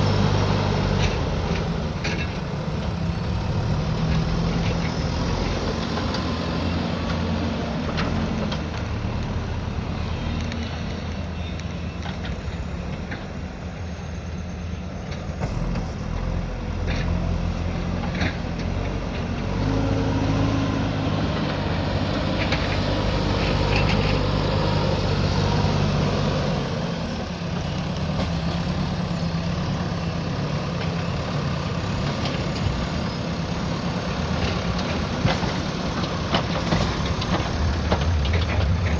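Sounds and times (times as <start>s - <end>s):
diesel engine under changing load: 0.0s - 38.9s.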